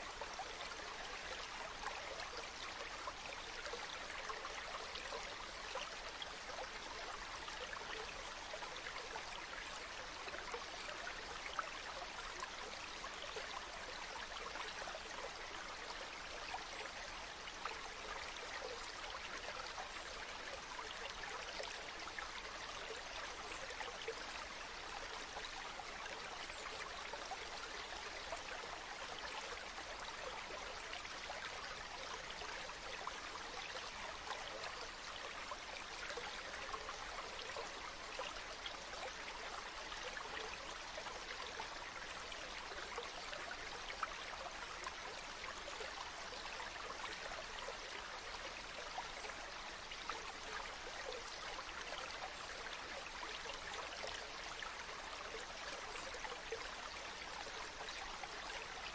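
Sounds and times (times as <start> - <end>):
stream water running: 0.0 - 58.9.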